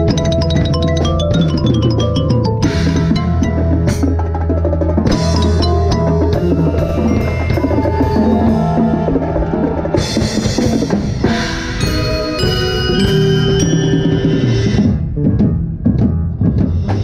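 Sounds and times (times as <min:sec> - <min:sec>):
percussion ensemble music: 0:00.0 - 0:17.0.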